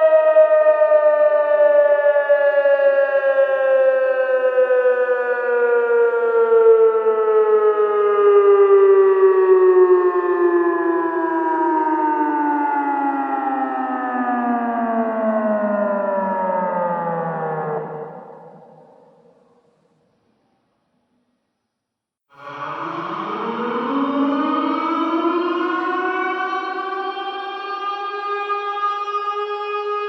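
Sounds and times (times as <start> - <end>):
air-raid siren winding down: 0.0 - 19.5, 22.3 - 30.0.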